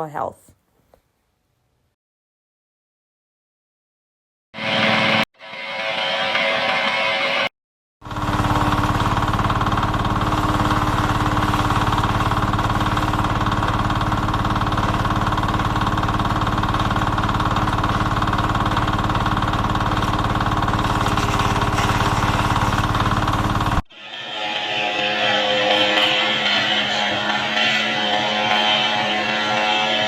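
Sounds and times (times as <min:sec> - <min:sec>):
engine running: 0:04.6 - 0:30.0.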